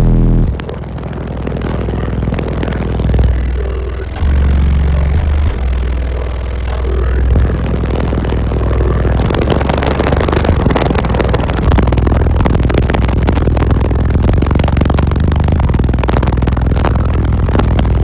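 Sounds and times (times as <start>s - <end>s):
loud deep bass from subwoofers: 0.0s - 18.0s.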